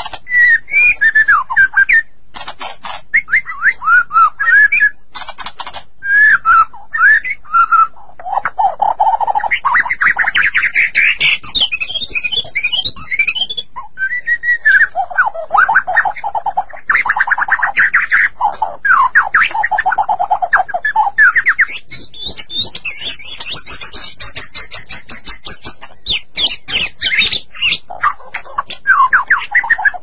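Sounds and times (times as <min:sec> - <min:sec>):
bird singing whistled notes: 0:00.2 - 0:02.1, 0:03.1 - 0:05.0, 0:06.0 - 0:08.0, 0:09.0 - 0:28.0, 0:28.8 - 0:30.0.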